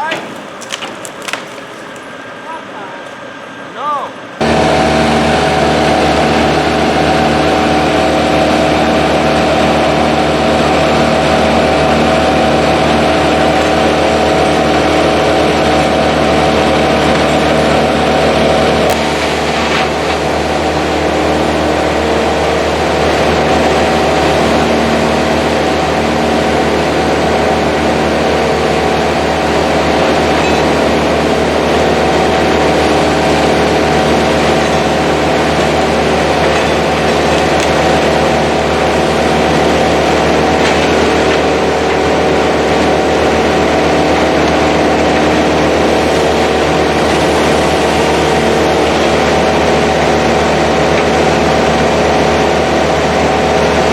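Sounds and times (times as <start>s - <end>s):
heavy engine running: 0.0s - 53.9s.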